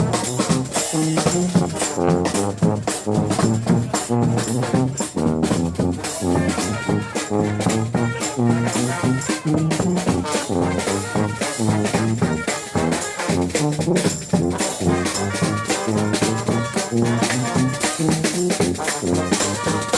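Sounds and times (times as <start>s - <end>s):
drums and cymbals: 0.0s - 19.9s
street brass band playing: 0.0s - 19.9s.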